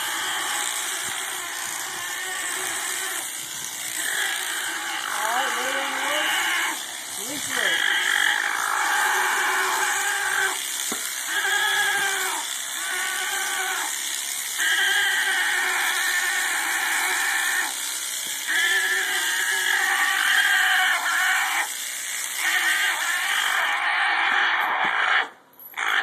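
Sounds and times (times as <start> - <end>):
alpaca screaming: 0.0 - 26.0.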